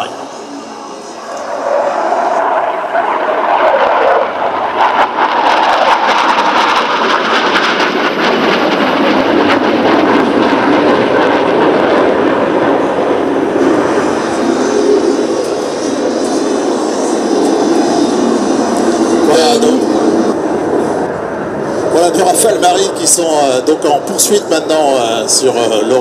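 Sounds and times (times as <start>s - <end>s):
jet flying past: 0.0s - 26.0s.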